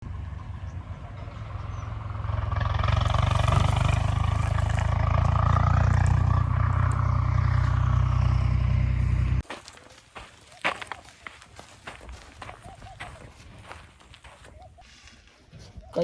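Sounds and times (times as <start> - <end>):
tractor diesel engine running: 0.0 - 14.8.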